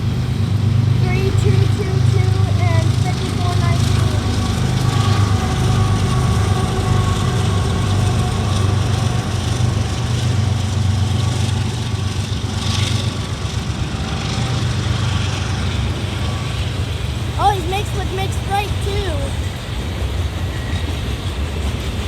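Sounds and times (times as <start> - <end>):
diesel locomotive engine drone: 0.0 - 22.0
train wheels rolling on rails: 0.0 - 22.0.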